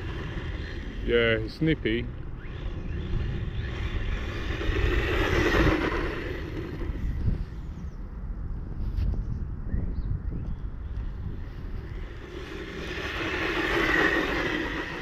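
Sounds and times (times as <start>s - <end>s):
rc truck driving on grass: 0.0s - 8.0s, 10.8s - 15.0s
wind buffeting microphone: 0.0s - 15.0s.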